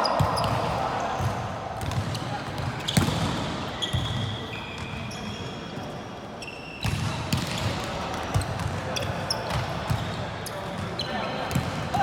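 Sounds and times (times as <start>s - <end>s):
sneakers squeaking on court: 0.0s - 11.8s.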